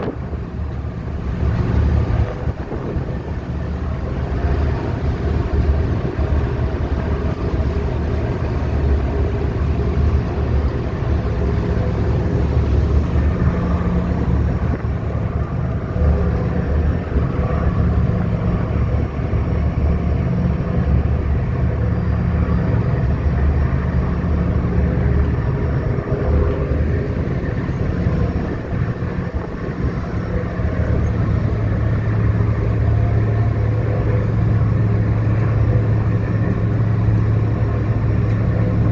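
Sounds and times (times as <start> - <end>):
ferry engines rumbling: 0.0 - 38.9
water and air rushing: 0.0 - 38.9.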